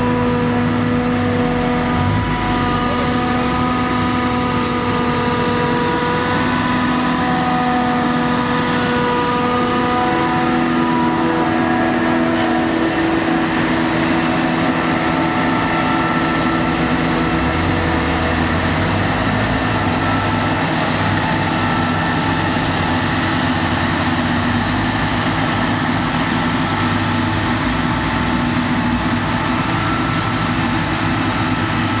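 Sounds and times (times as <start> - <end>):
harvester engine drone: 0.0 - 32.0.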